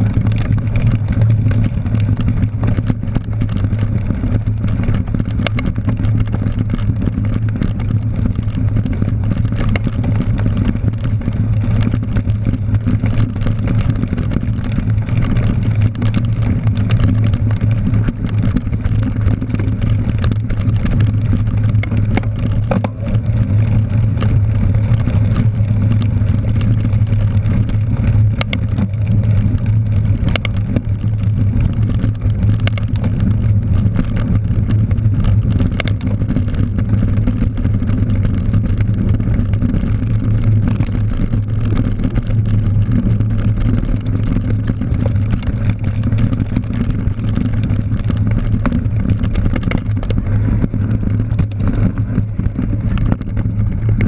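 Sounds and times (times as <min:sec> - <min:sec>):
bicycle tyres rolling on dirt: 0:00.0 - 0:54.0
bike clicks and rattles: 0:00.0 - 0:54.0.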